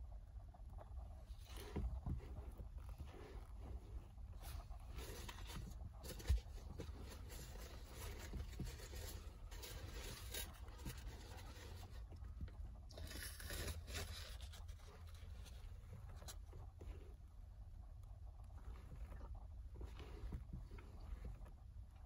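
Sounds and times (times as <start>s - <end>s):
faint scraping and rustling: 0.0s - 22.0s.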